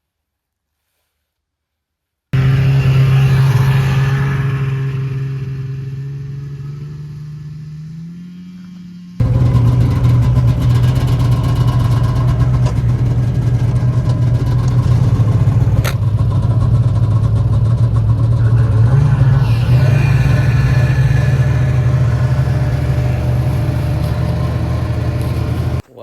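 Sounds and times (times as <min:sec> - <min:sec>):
snowmobile engine running: 0:02.4 - 0:25.8.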